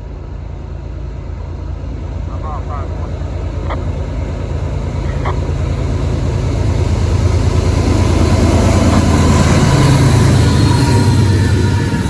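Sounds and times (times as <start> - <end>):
diesel locomotive engines humming: 0.0 - 12.0.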